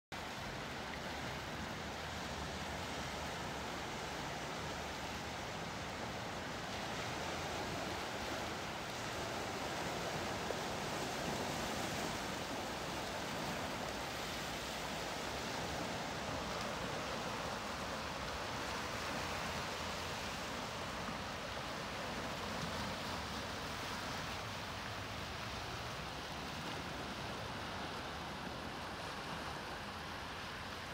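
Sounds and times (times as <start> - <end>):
small waves washing over rocks: 0.2 - 30.9.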